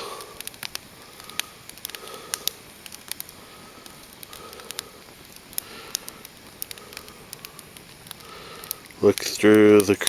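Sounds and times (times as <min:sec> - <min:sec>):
faint steady hiss: 0:00.0 - 0:10.0
fire crackling and popping: 0:00.0 - 0:10.0.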